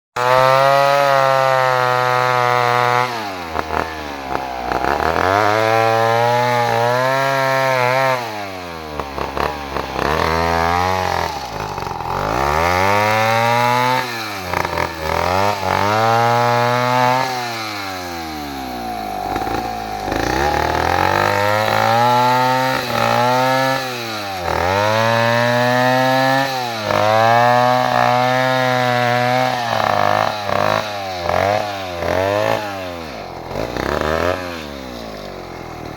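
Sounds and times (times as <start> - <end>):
chainsaw revving while cutting wood: 0.2 - 35.9.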